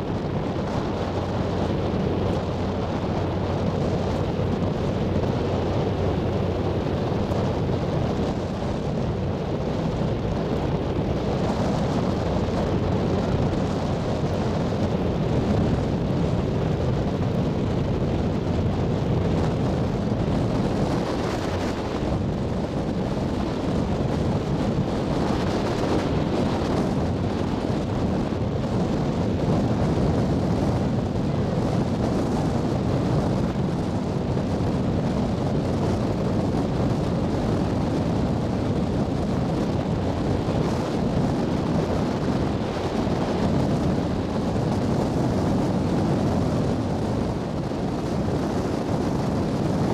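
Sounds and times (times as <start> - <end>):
ferry engines droning: 0.0 - 49.9
wind buffeting microphone: 0.0 - 49.9.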